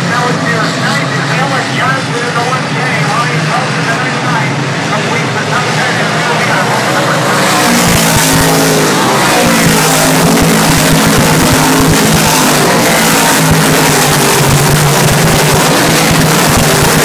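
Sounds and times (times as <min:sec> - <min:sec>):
race car engines roaring: 0:00.0 - 0:17.0.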